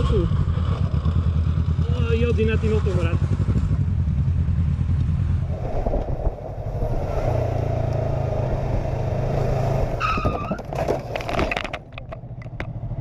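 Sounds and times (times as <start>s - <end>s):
road and wind noise: 0.0s - 13.0s
vehicle engine humming: 0.0s - 13.0s.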